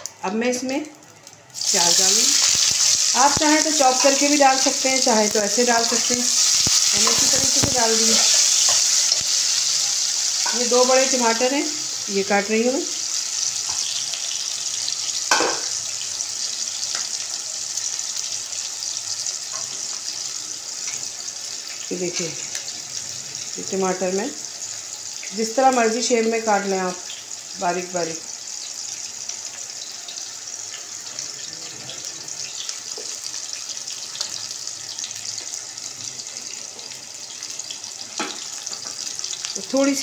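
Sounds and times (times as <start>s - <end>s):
onion sizzling in oil: 0.0s - 40.0s.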